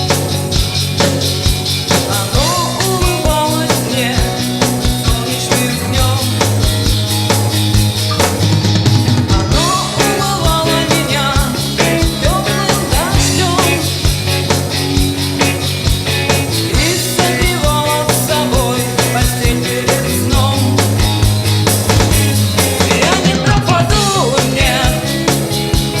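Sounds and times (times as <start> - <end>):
live band music: 0.0 - 26.0
steady drum beat: 0.0 - 26.0
sustained bass notes: 0.0 - 26.0.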